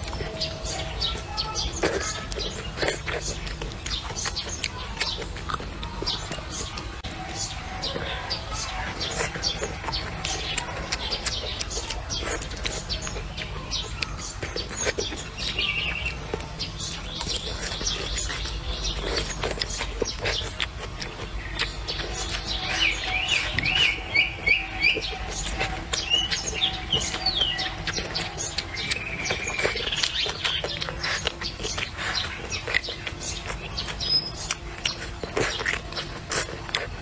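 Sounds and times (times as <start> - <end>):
birds chirping: 0.0 - 37.0
person chewing: 0.0 - 37.0.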